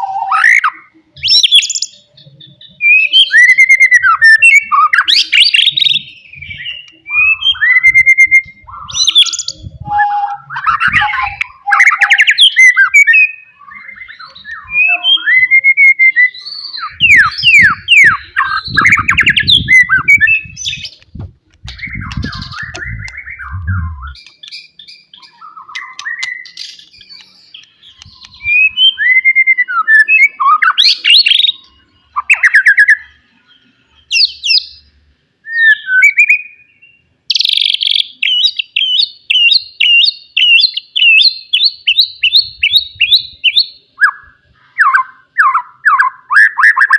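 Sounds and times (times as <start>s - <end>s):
bird singing whistled phrases: 0.0s - 21.0s, 21.7s - 33.2s, 35.4s - 46.9s.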